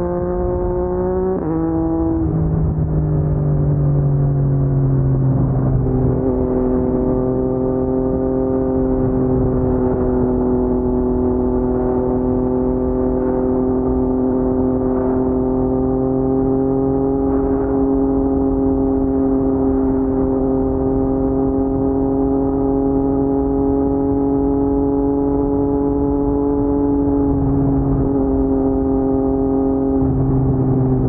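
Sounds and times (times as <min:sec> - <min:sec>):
motorcycle engine steady note: 0:00.0 - 0:31.0.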